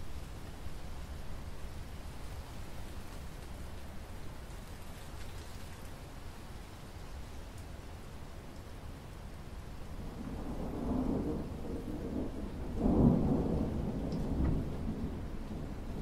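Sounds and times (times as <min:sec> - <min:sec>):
rain falling on water: 0:00.0 - 0:16.0.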